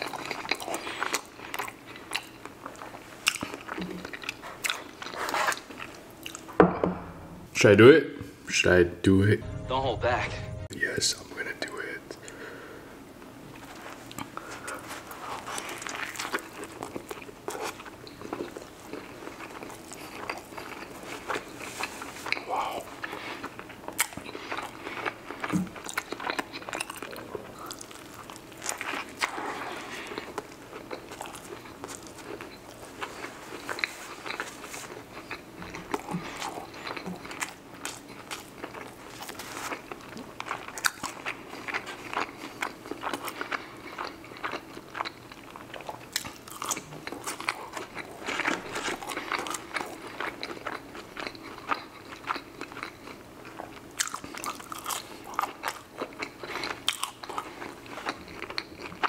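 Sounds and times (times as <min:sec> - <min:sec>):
crunchy chewing of fried food: 0:00.0 - 0:06.6, 0:13.5 - 0:59.0.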